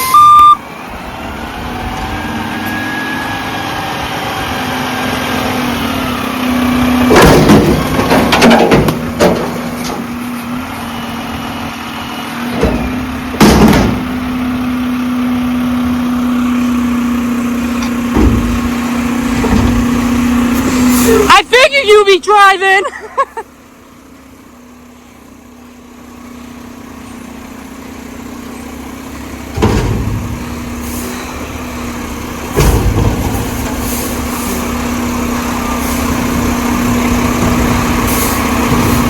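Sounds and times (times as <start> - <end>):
garbage truck engine humming: 0.0 - 39.0.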